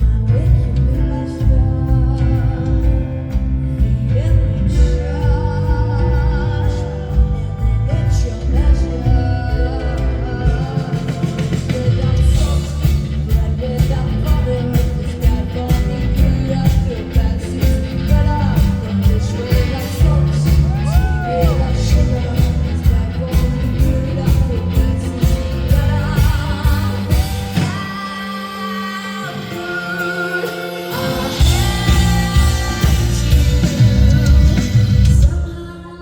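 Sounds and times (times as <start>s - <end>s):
heavy bass: 0.0s - 28.0s, 30.8s - 35.7s
drums and cymbals: 0.0s - 28.3s, 29.4s - 35.9s
live rock band playing: 0.0s - 35.8s
woman singing: 0.0s - 36.0s.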